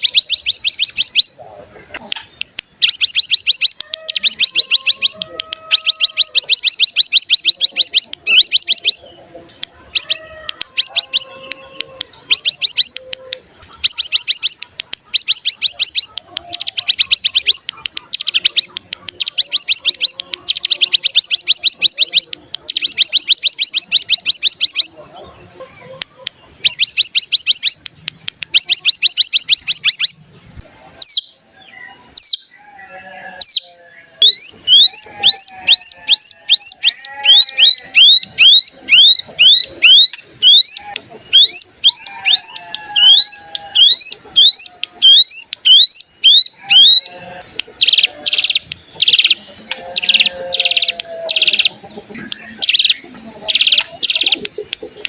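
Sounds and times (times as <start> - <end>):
bird singing fast high trills: 0.0 - 1.4, 2.7 - 9.1, 9.9 - 13.0, 13.7 - 25.0, 26.6 - 27.9, 28.5 - 54.5.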